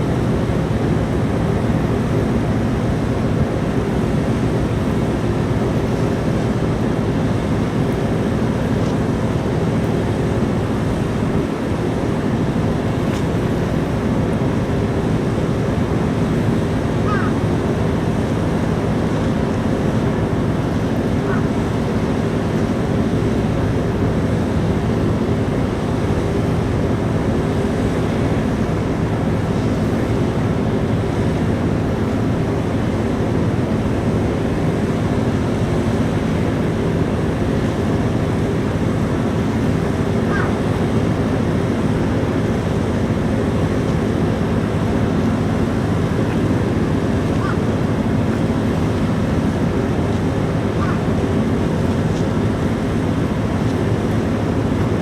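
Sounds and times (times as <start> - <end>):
ferry engines droning: 0.0 - 55.0
water noise: 0.0 - 55.0
wind: 0.0 - 55.0.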